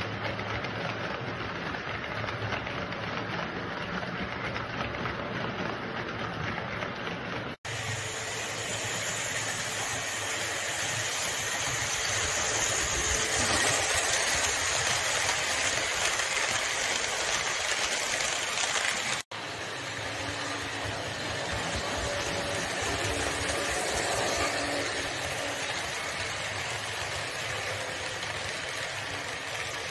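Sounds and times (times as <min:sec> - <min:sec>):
model train wheels whirring: 0:00.0 - 0:29.9.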